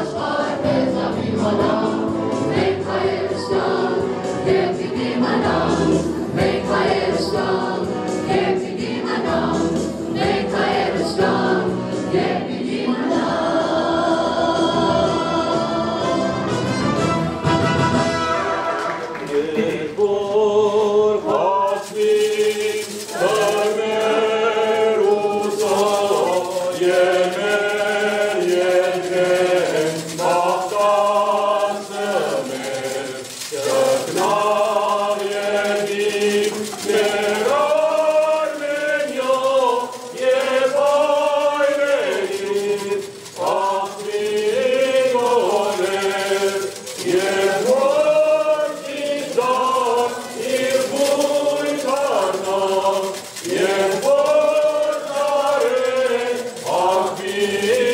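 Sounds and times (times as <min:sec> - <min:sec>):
choir chanting slowly: 0:00.0 - 0:16.8, 0:18.2 - 0:57.9.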